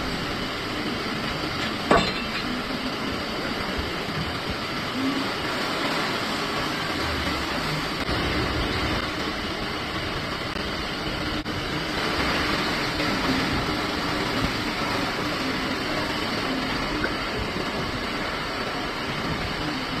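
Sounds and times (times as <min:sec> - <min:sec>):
factory machinery hum and hiss: 0:00.0 - 0:20.0.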